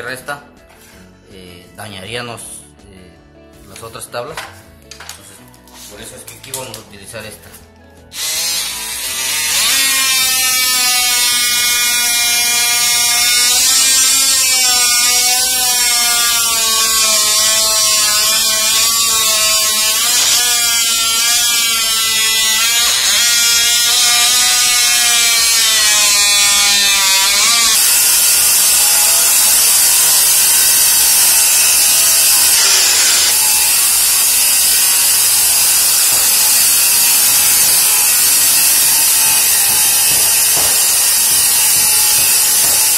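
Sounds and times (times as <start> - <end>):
multi-tool cutting into wood: 8.2 - 42.9.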